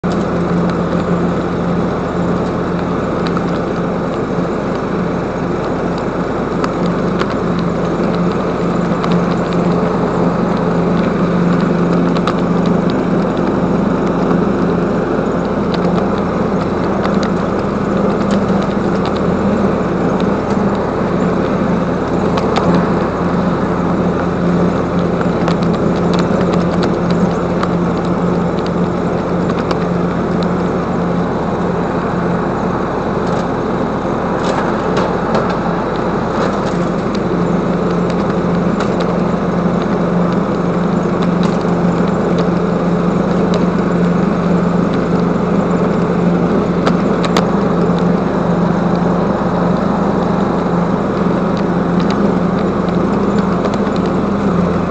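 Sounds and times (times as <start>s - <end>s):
engine running steadily: 0.0s - 54.9s
small clicks: 0.1s - 32.1s, 32.9s - 54.9s.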